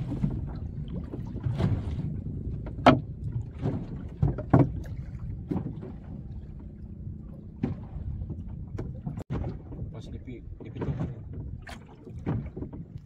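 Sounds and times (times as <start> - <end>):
waves slapping boat hull: 0.0 - 13.0.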